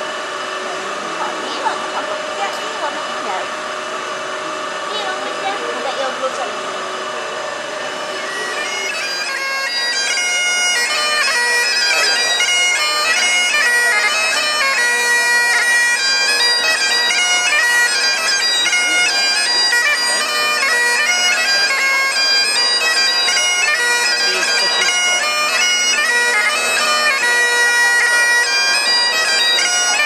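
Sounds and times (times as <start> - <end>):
bagpipe melody over drone: 0.0 - 30.0.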